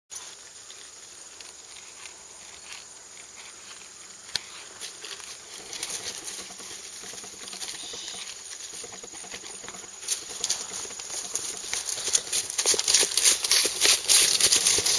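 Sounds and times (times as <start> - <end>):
horse hooves trotting on turf: 0.1 - 14.9
steady outdoor hiss: 0.1 - 14.9.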